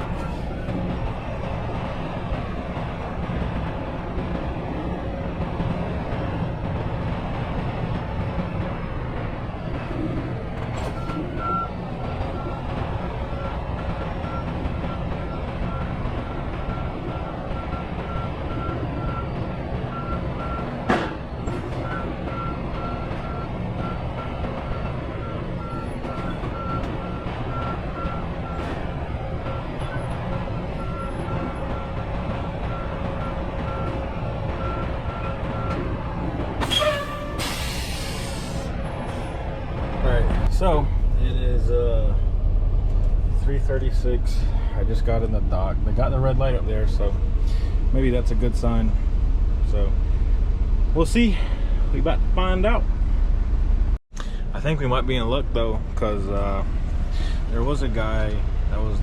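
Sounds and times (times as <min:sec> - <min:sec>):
diesel truck engine rumbling: 0:00.0 - 0:59.0.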